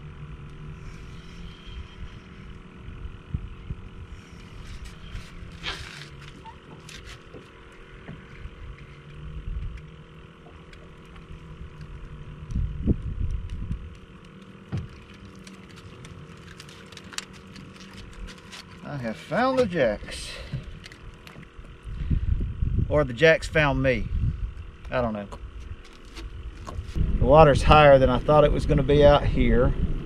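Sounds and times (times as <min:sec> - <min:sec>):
wind rumbling on microphone: 0:00.0 - 0:16.5, 0:17.8 - 0:30.0
faint steady hum: 0:00.0 - 0:30.0.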